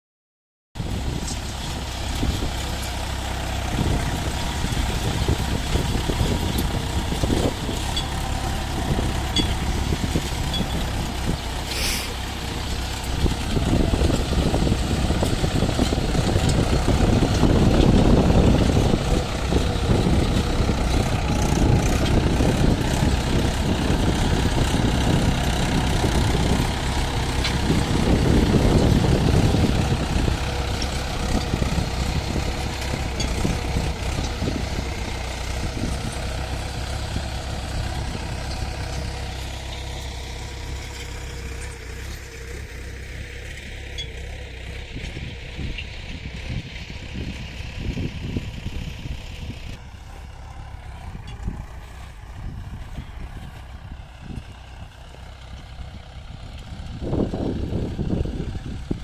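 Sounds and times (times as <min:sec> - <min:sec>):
tractor diesel engine rumbling: 0:00.8 - 0:59.0.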